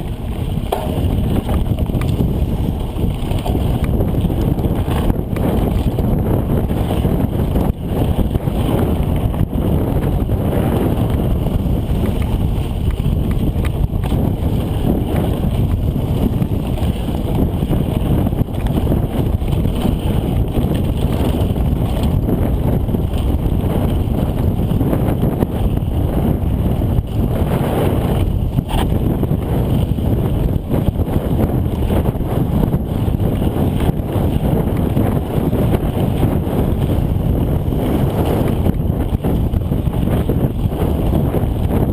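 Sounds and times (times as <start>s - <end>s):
knocks from rough trail: 0.0s - 41.9s
wind buffeting microphone: 0.0s - 41.9s.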